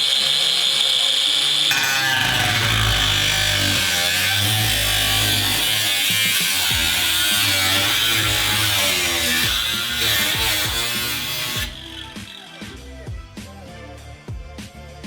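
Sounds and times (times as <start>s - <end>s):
power tool cutting sheet metal: 0.0s - 13.0s.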